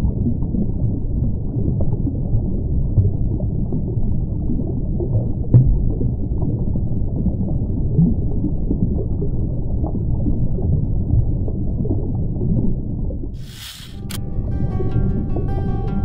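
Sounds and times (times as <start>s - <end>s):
muffled low rumble: 0.0s - 16.0s.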